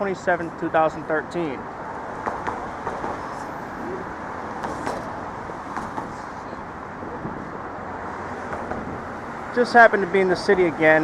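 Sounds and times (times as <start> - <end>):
passing cars: 0.0 - 11.0.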